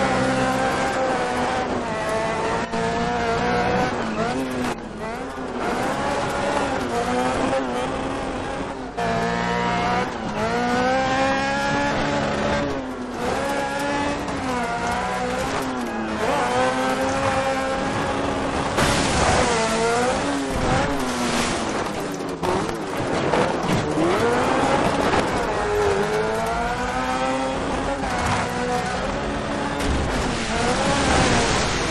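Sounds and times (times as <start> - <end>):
buggy engine revving: 0.0 - 31.9.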